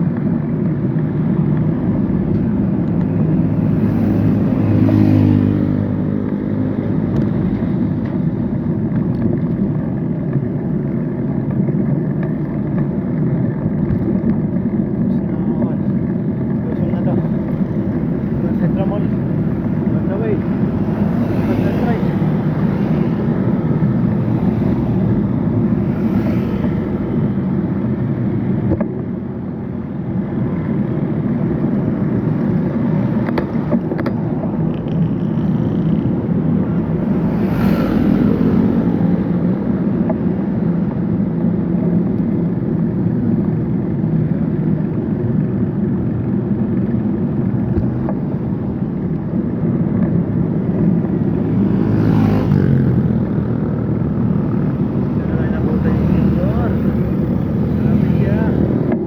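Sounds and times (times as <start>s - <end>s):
road traffic rumble: 0.0s - 59.0s
wind: 0.0s - 59.0s.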